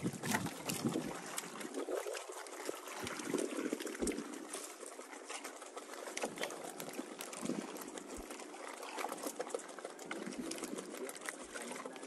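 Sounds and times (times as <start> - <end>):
small clicks and splashes: 0.0 - 12.0
water sloshing and trickling: 0.0 - 12.0.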